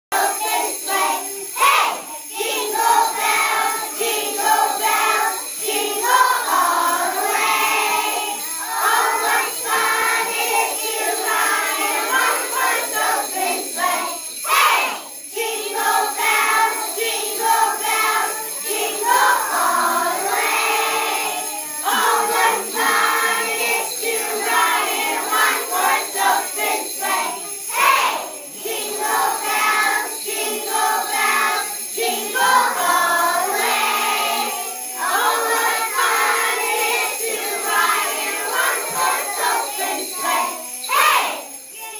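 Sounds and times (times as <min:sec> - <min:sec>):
children singing: 0:00.1 - 0:41.9
jingle bells shaken: 0:00.2 - 0:41.9.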